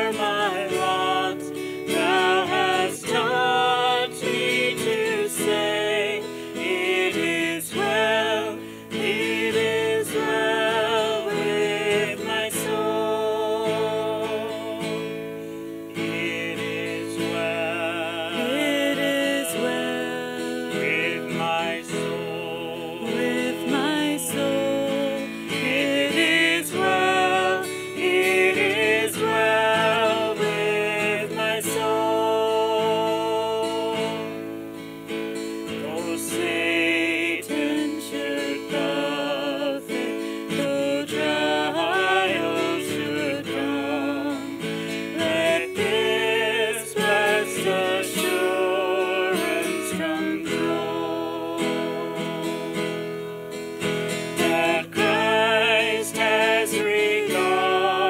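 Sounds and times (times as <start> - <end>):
man and woman singing: 0.0 - 34.6, 35.4 - 58.0
strummed acoustic guitar: 0.0 - 58.0.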